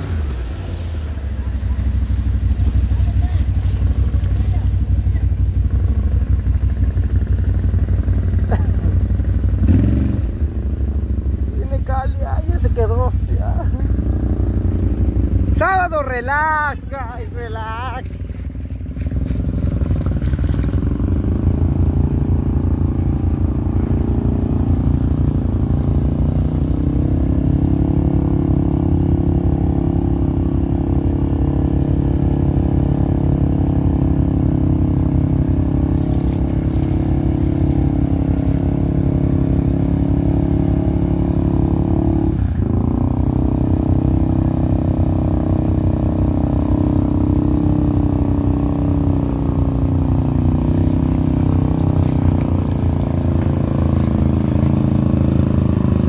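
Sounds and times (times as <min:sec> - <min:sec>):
quad engine running: 0:00.0 - 0:56.0.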